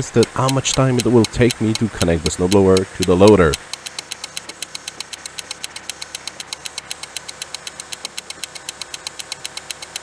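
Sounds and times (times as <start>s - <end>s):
rapid even ticking: 0.0s - 10.0s.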